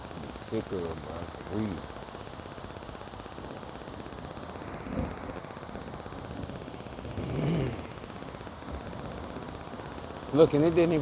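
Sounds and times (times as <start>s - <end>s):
rain drops crackling: 0.0s - 11.0s.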